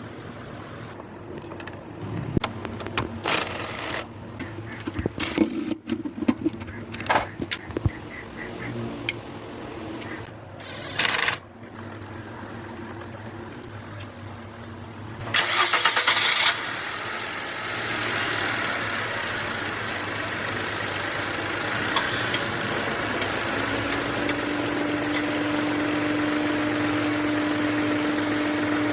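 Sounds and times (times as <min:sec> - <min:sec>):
car engine starting and running: 0:00.0 - 0:28.9.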